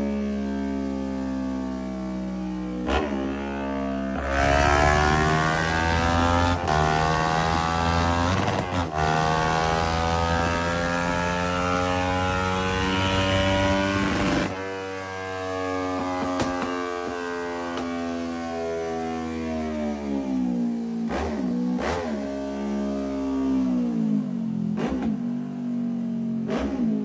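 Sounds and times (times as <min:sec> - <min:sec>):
motorcycle engine revving: 0:00.4 - 0:27.0.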